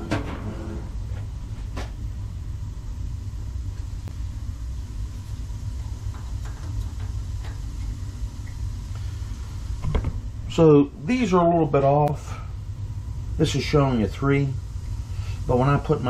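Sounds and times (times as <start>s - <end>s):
gas boiler burners rumbling: 0.0s - 16.0s.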